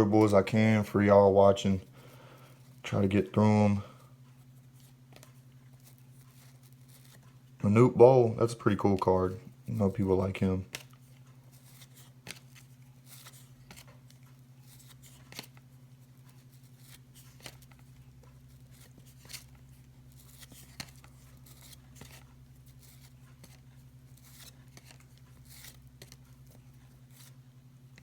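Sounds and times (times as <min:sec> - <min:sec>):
steady low hum: 0:00.0 - 0:28.0
trading cards rustling and clicking: 0:02.4 - 0:28.0.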